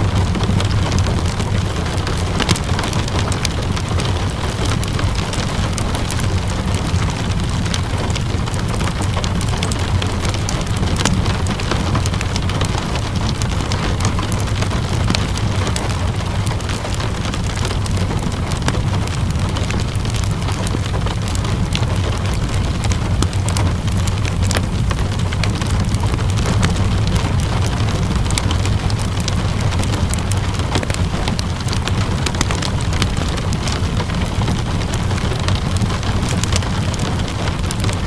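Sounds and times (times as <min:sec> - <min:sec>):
low rumble: 0:00.0 - 0:38.0
rain hissing: 0:00.0 - 0:38.0
wood fire crackling: 0:00.0 - 0:38.0.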